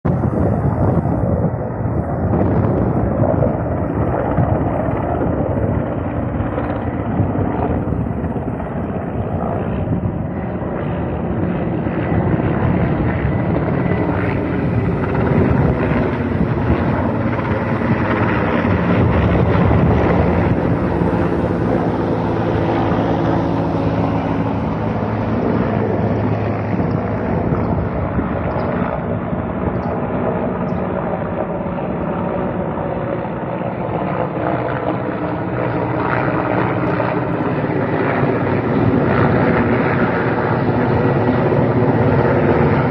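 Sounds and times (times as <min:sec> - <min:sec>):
helicopter flying: 0:00.0 - 0:42.9.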